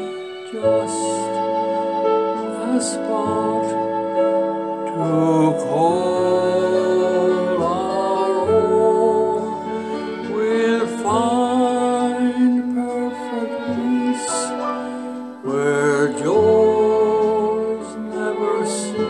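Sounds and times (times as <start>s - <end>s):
gentle instrumental backing: 0.0s - 19.0s
man singing a slow ballad: 0.0s - 19.0s.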